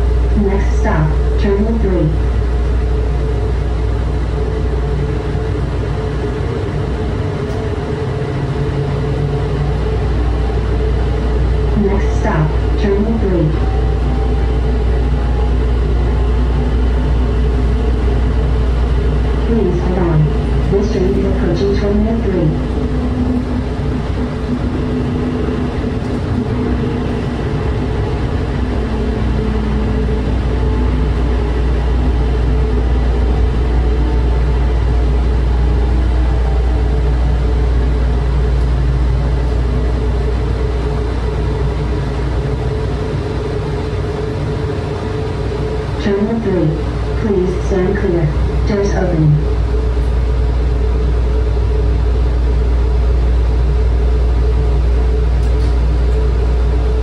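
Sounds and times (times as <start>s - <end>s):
motor hum: 0.0s - 57.0s
train running rumble: 0.0s - 57.0s.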